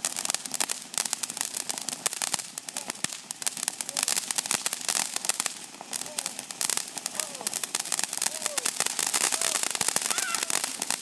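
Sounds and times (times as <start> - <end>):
firework crackling sparks: 0.0 - 11.0.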